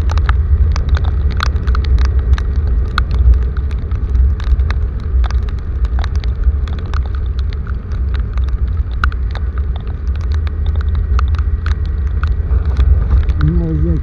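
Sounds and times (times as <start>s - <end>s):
loud steady low rumble: 0.0s - 14.0s
raindrops striking close by: 0.0s - 14.0s.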